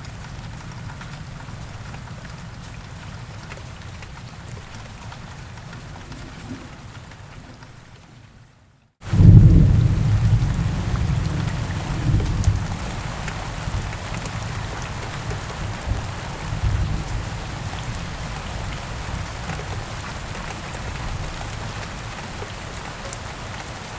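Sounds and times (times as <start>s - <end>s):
thunderclap with low rumble: 0.0s - 7.9s, 9.0s - 22.7s
steady rain falling: 0.0s - 23.9s.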